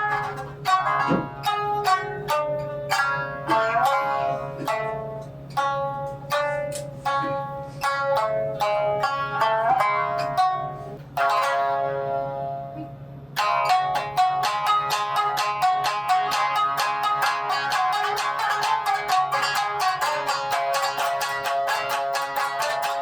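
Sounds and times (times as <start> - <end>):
shamisen playing: 0.0 - 12.8, 13.4 - 23.0.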